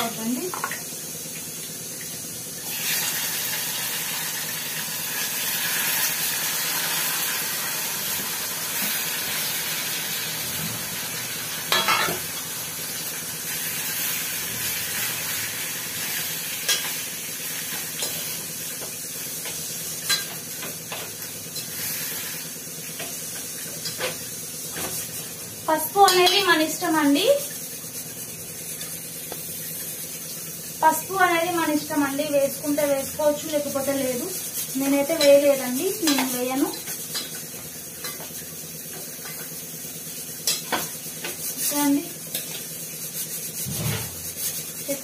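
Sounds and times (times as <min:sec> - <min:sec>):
food sizzling in hot oil: 0:00.0 - 0:45.0.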